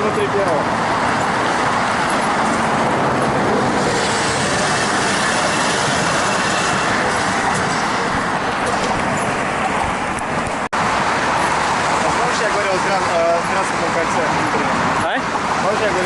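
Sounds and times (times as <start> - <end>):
heavy road traffic: 0.0 - 16.0.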